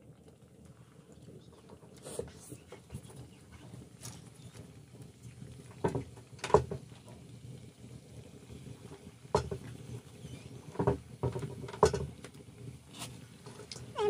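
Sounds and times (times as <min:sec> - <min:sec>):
dough sizzling in hot oil: 0:00.0 - 0:14.0
sharp crackles from frying oil: 0:00.0 - 0:14.0.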